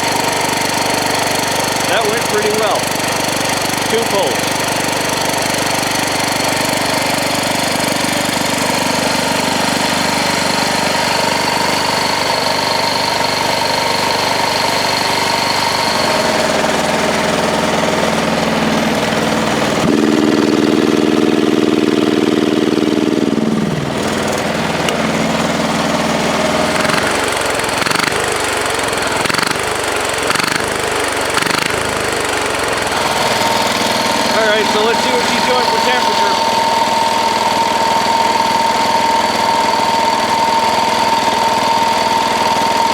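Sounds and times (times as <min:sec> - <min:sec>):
higher engine tone: 0:00.0 - 0:42.9
small diesel engine running: 0:00.0 - 0:42.9.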